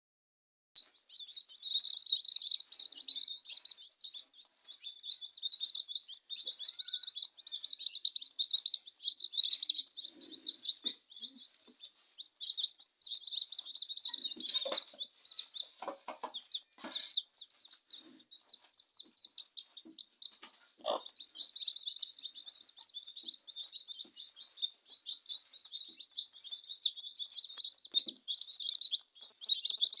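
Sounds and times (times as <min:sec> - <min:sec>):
chicks peeping: 0:00.8 - 0:30.0.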